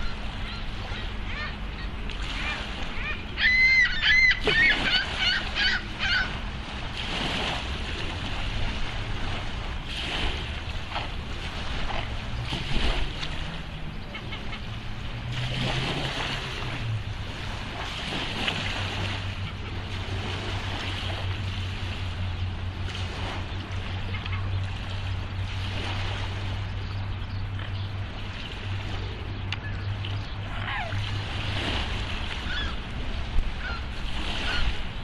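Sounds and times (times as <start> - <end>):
low motor hum: 0.0 - 35.0
water: 0.0 - 35.0.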